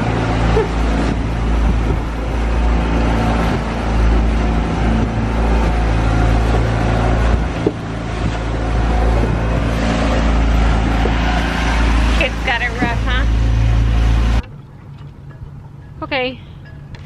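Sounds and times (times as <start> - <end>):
water rushing: 0.0 - 16.3
boat engine droning: 0.0 - 17.0.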